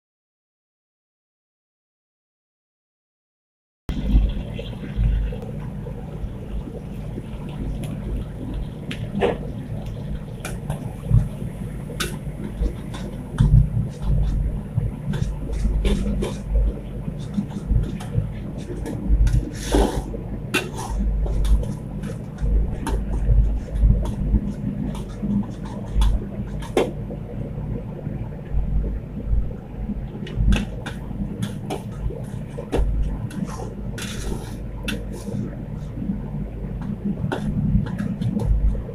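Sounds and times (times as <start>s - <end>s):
steady low rumble: 3.9s - 38.9s.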